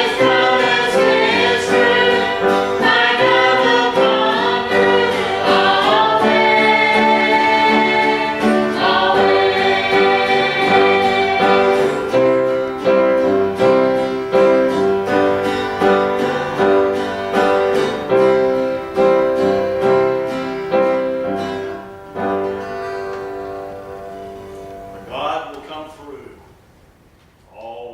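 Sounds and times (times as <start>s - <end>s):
gospel singers: 0.0s - 22.6s
instrumental accompaniment: 0.0s - 25.5s.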